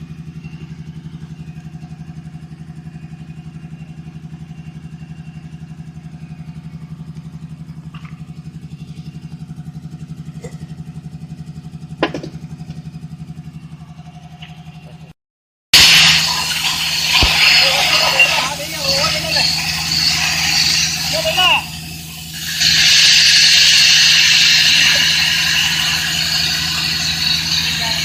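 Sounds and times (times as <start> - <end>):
air compressor engine running: 0.0 - 15.1, 15.8 - 28.0.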